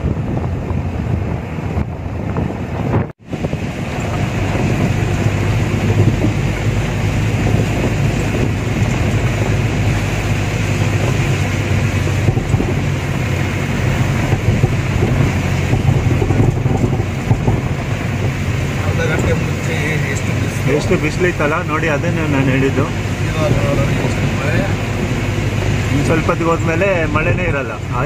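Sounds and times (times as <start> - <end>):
road and wind noise: 0.0 - 28.0
truck engine drone: 0.0 - 28.0.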